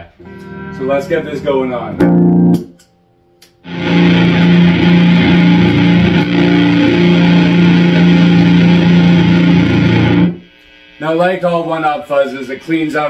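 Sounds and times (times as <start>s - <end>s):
fuzz electric guitar riff: 0.0s - 11.4s.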